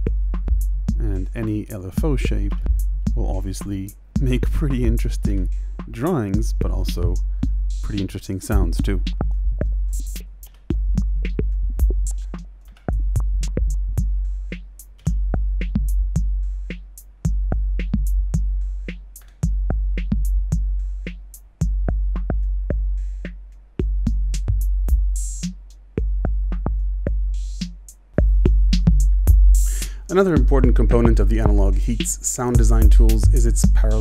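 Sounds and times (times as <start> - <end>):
drum machine beat: 0.0 - 34.0.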